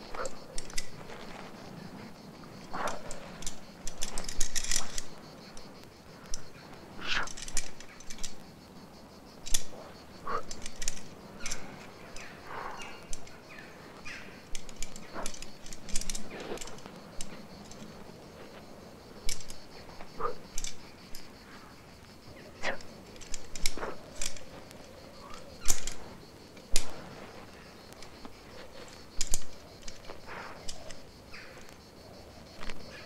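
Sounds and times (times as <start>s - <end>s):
carabiners and gear clinking: 0.0s - 31.9s.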